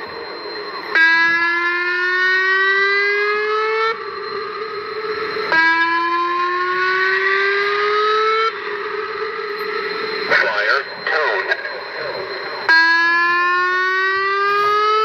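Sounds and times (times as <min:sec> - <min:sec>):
warning siren rising tone: 0:00.0 - 0:15.0.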